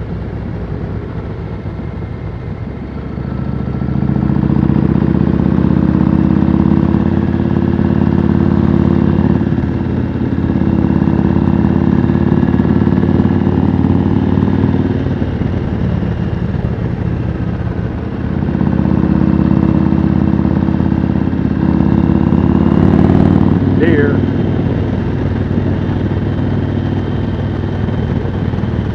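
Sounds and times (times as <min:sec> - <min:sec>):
motorcycle engine at road speed: 0:00.0 - 0:28.9.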